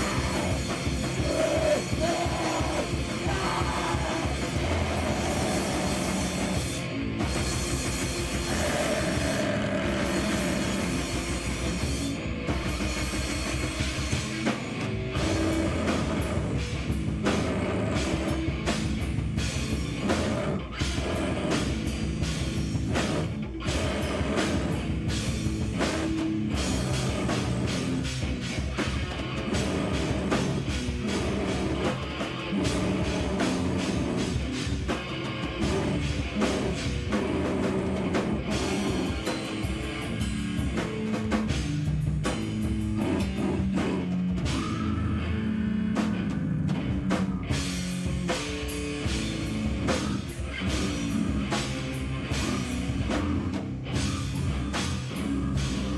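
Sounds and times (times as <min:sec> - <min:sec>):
fast drum-kit hits: 0:00.0 - 0:55.9
guitar: 0:00.0 - 0:55.9
live rock band playing: 0:00.0 - 0:55.9.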